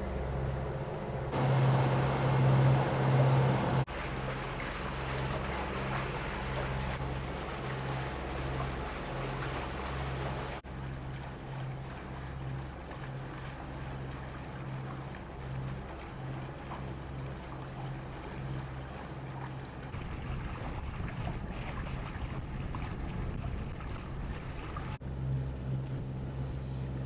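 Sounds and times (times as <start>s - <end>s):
wind and water hiss: 0.0s - 25.0s
boat diesel engines throbbing: 0.0s - 27.0s.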